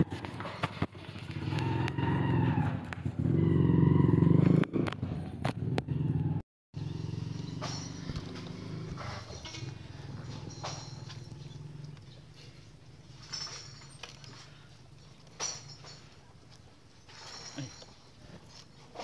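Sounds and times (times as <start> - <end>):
motorcycle engine idling: 0.7 - 16.0.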